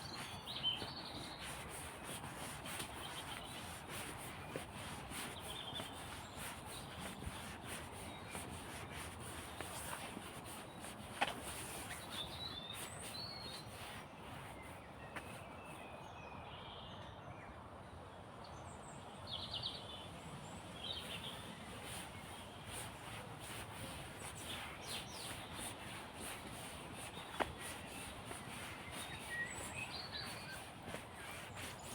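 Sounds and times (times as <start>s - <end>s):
small birds chirping: 0.0s - 16.1s, 20.8s - 31.9s.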